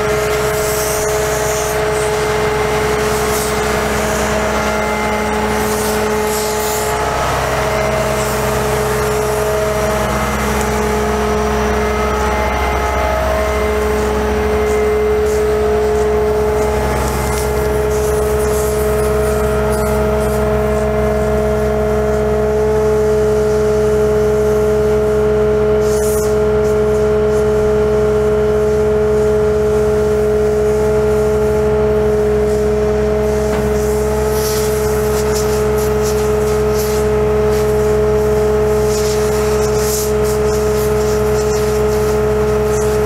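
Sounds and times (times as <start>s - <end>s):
diesel engine running: 0.0s - 43.0s
hydraulic pump whine: 0.0s - 43.0s.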